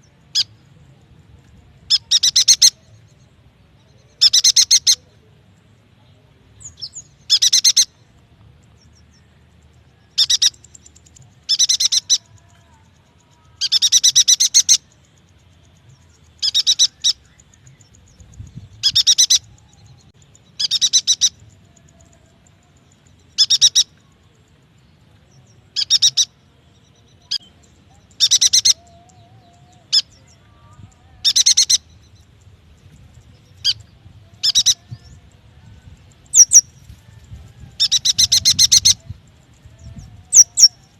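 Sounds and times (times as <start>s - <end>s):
bird trilling song: 1.8s - 5.3s, 6.6s - 40.9s.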